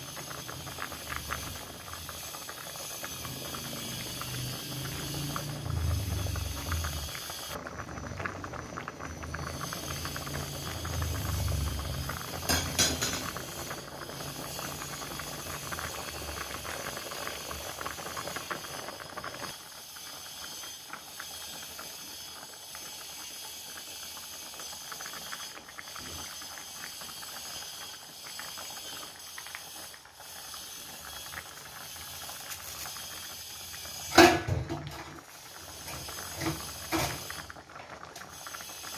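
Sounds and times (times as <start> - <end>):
sauce boiling in a wok: 0.0 - 38.9.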